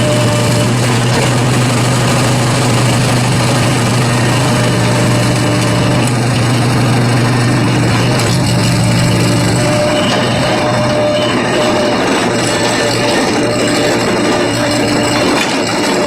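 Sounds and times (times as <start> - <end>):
diesel engine running steadily: 0.0 - 16.0.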